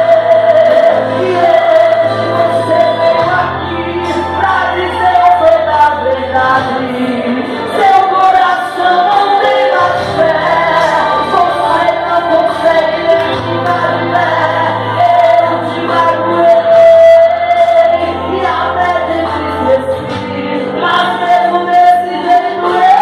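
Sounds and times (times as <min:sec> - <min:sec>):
instrumental accompaniment with bass: 0:00.0 - 0:23.0
person singing: 0:00.0 - 0:23.0.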